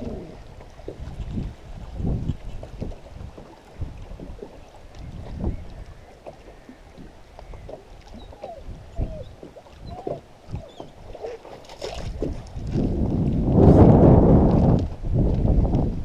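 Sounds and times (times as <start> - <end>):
water gurgling and splashing: 0.0 - 15.7.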